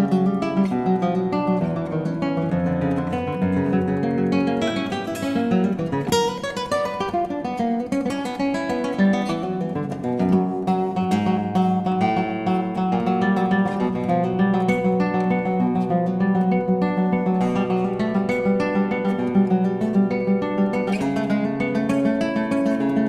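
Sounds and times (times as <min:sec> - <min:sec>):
acoustic guitar plucking and strumming: 0:00.0 - 0:23.0.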